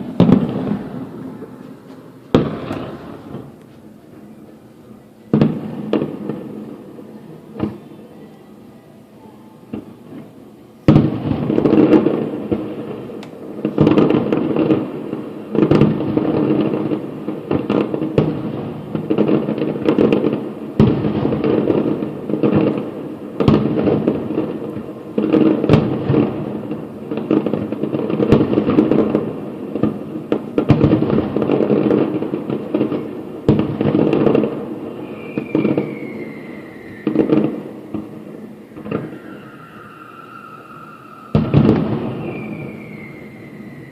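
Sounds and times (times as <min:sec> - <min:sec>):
fireworks booms and crackles: 0:00.0 - 0:08.6, 0:09.6 - 0:43.9.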